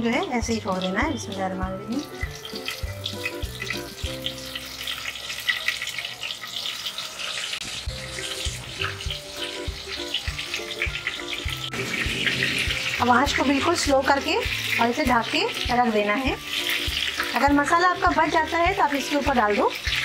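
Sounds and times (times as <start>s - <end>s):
background music: 0.0s - 20.0s
hot oil sizzling and crackling: 0.0s - 20.0s.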